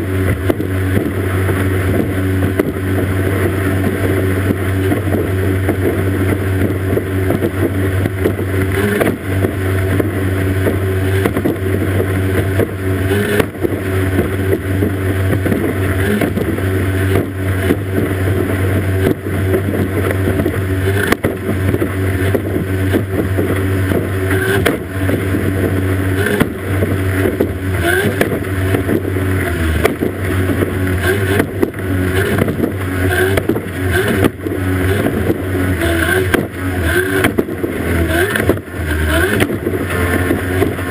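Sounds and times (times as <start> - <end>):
hull slamming over waves: 0.0 - 40.9
outboard engine droning: 0.0 - 40.9
water and spray rushing: 0.0 - 40.9.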